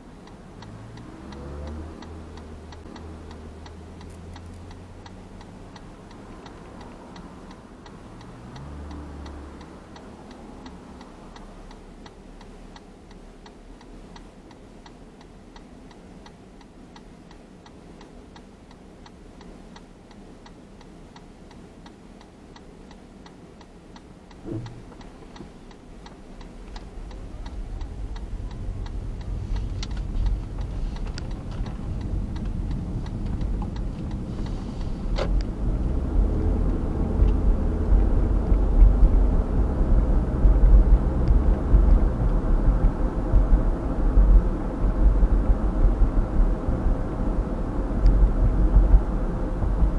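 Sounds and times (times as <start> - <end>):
car engine and road noise: 0.0 - 49.9
turn signal ticking: 0.0 - 49.9.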